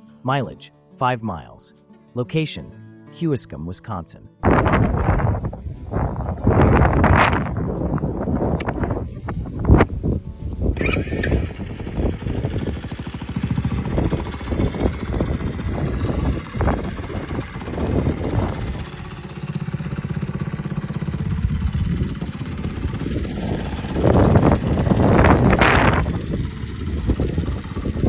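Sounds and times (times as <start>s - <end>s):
small motorcycle engine running: 4.5s - 28.0s.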